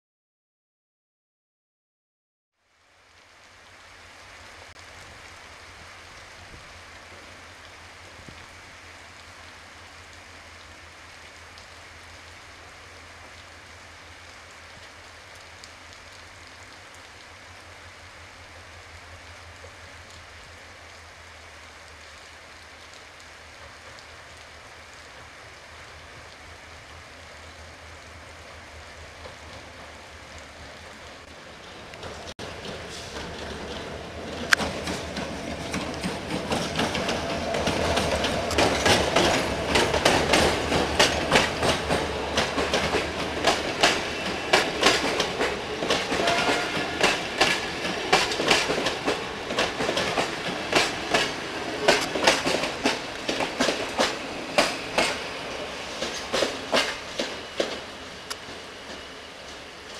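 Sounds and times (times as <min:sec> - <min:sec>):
light rain hissing: 0:02.6 - 0:59.9
distant approaching train: 0:03.1 - 0:59.9.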